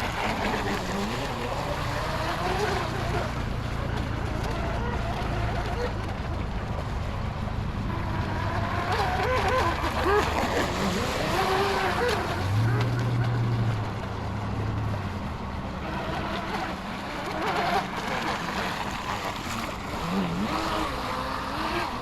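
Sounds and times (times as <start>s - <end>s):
electric boat motor whining: 0.0s - 22.0s.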